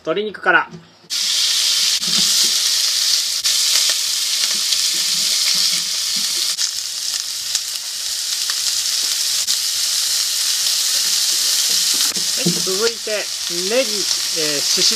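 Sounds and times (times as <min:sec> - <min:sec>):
chicken sizzling in hot oil: 0:01.1 - 0:14.9.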